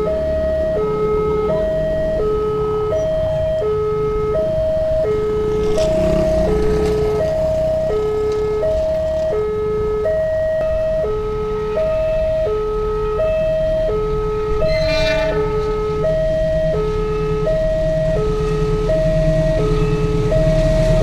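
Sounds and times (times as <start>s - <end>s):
level crossing two-tone alarm: 0.0s - 21.0s
motorcycle engines rumbling: 0.0s - 21.0s
road traffic rumble: 0.0s - 21.0s.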